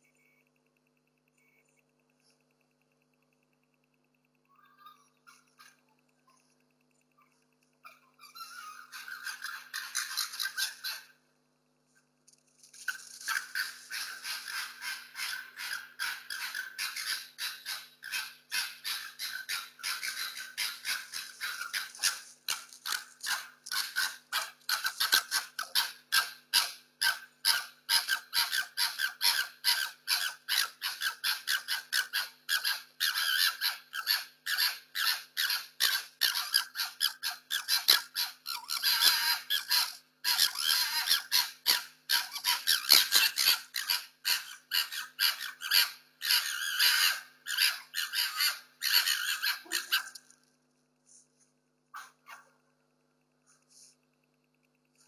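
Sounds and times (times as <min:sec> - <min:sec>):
foxes gekkering: 0:04.3 - 0:11.2, 0:12.7 - 0:50.4, 0:51.9 - 0:52.6.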